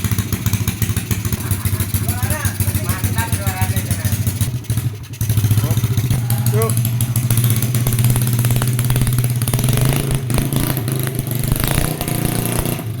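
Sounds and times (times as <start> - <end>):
mini bike engine running: 0.0 - 13.0.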